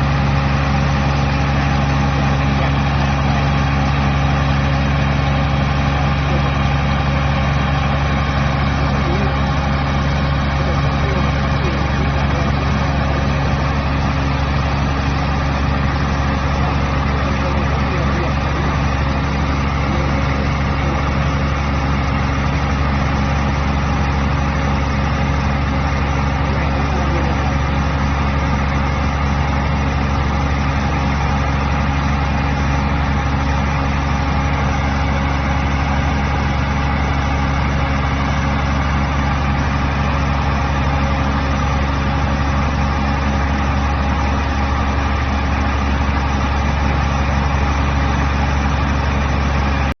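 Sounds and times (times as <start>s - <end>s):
wood chipper diesel engine running: 0.0s - 50.0s.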